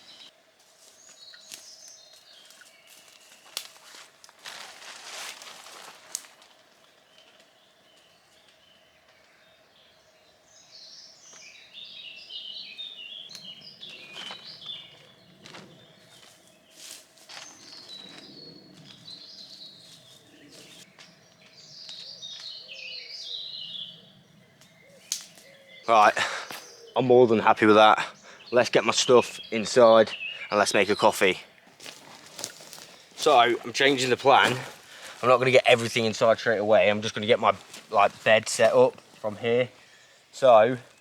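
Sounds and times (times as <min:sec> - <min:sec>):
songbird chirping: 0:00.0 - 0:41.0.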